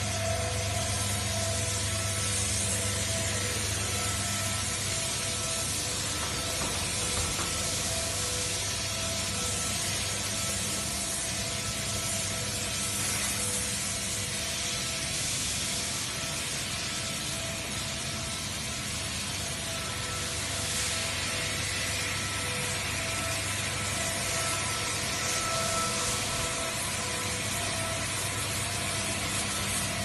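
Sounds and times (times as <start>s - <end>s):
machine whining tones: 0.0s - 30.0s
machinery hissing and humming: 0.0s - 30.0s.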